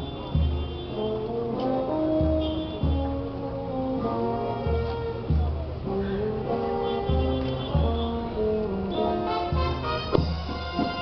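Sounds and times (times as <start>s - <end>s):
band playing a slow march: 0.0s - 11.0s.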